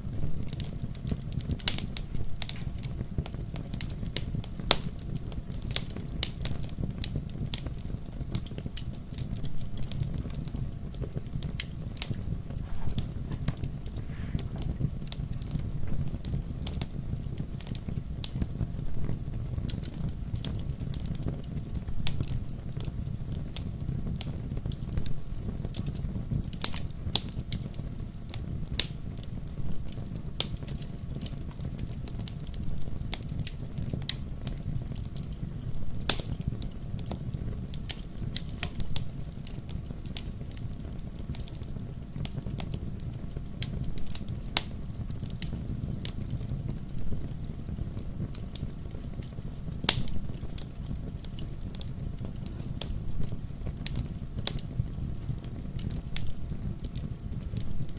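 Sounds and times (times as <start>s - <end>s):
fire crackling and popping: 0.0s - 57.9s
fireplace flames rumbling: 0.0s - 57.9s.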